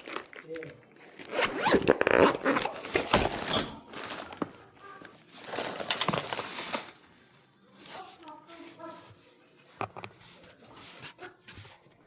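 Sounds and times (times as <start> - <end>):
scraping and rustling: 0.0 - 12.0.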